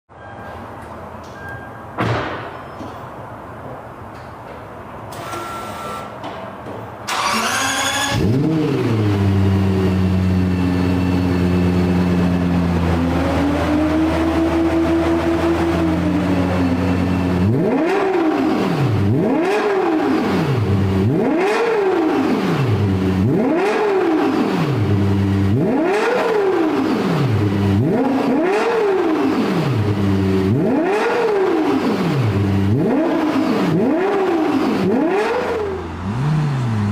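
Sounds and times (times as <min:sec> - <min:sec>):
sports car engine revving: 0:07.1 - 0:36.9.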